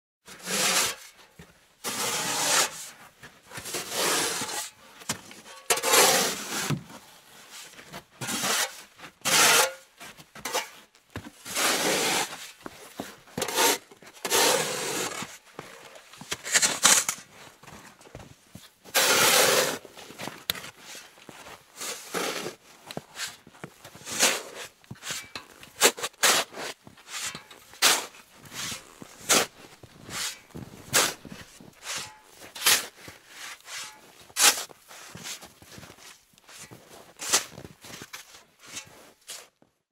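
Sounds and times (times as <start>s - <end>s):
snow shovel scraping snow: 0.3s - 1.2s, 1.8s - 4.8s, 5.4s - 17.4s, 18.8s - 39.6s.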